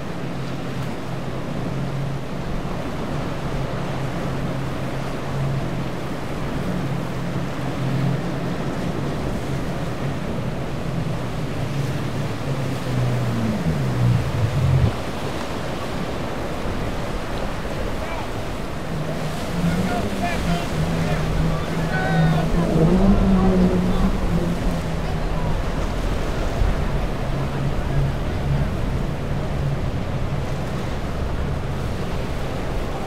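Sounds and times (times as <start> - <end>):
boat engine drone: 0.0 - 33.0
waves rushing: 0.0 - 33.0
wind buffeting microphone: 5.6 - 33.0.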